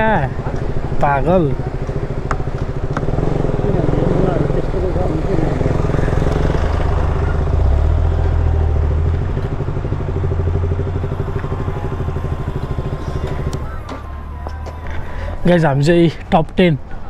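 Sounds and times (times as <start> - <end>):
motorcycle engine running: 0.0 - 16.3.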